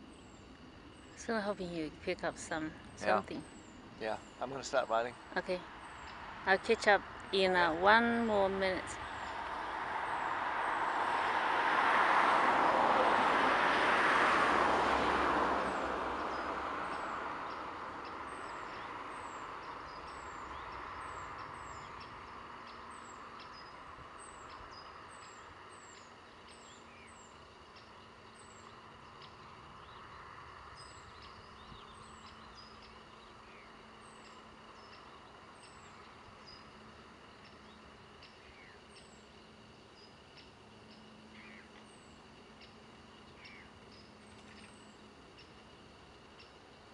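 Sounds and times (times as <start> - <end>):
faint steady hum: 0.0 - 46.9
vehicle passing: 0.6 - 38.2.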